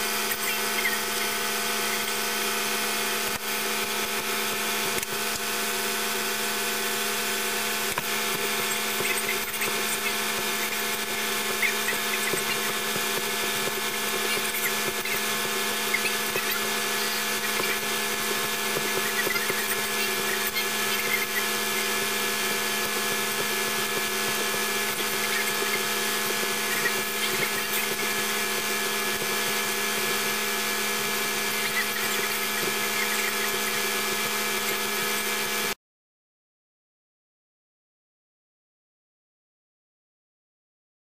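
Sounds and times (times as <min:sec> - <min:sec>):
electric motor whining: 0:00.0 - 0:35.8.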